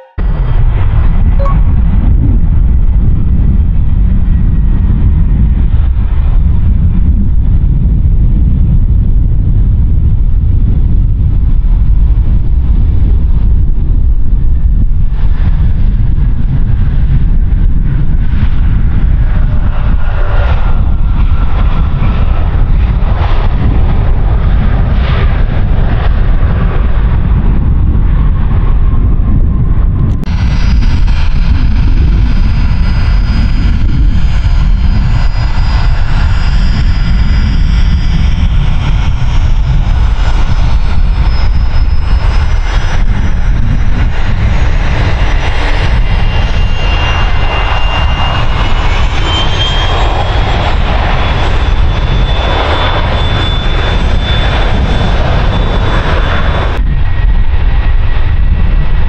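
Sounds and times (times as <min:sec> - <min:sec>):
jet engine whine: 0:00.0 - 0:59.0
jet engines roaring: 0:00.0 - 0:59.0.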